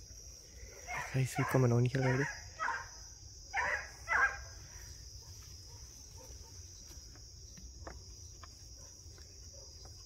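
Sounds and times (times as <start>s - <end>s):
crickets droning: 0.0s - 10.0s
faint insect ticks: 0.0s - 10.0s.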